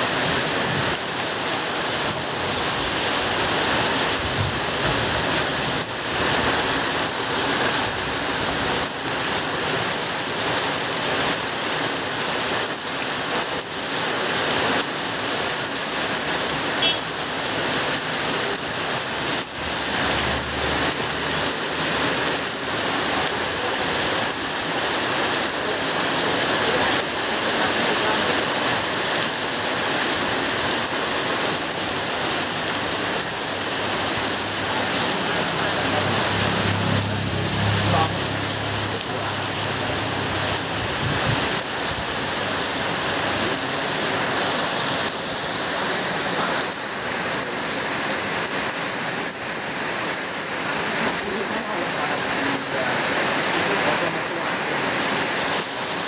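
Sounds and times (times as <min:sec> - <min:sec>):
heavy rain on pavement: 0:00.0 - 0:56.0.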